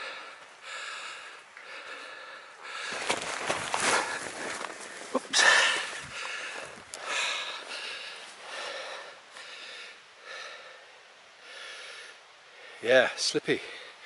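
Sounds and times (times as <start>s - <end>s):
man breathing heavily: 0.0s - 12.9s, 13.6s - 14.0s.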